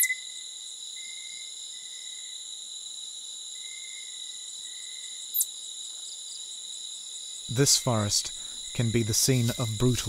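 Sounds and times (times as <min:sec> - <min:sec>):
night insects chorus: 0:00.0 - 0:10.0.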